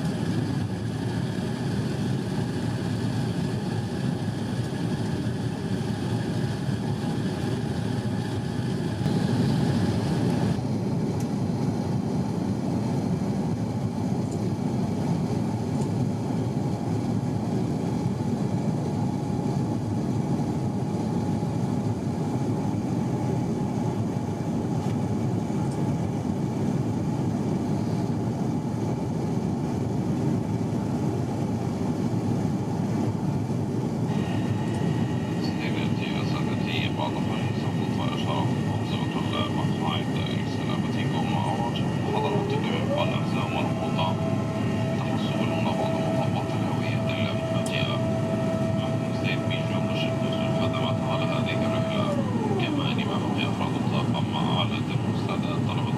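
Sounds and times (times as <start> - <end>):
airplane cabin engine rumble: 0.0 - 55.9.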